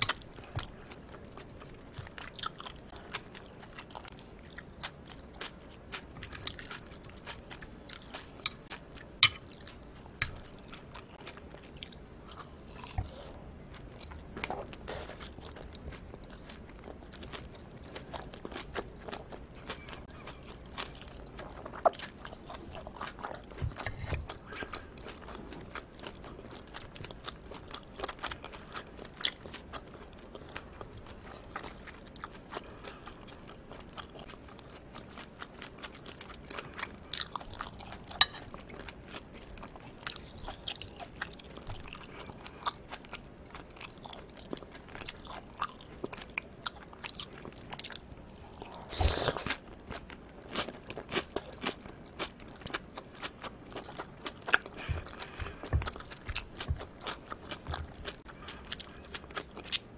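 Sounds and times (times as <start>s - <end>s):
close chewing with wet mouth clicks: 0.0s - 59.9s.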